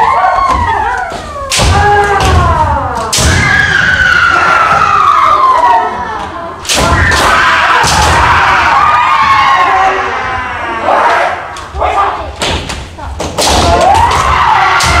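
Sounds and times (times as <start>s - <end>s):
voices shouting: 0.0s - 12.4s.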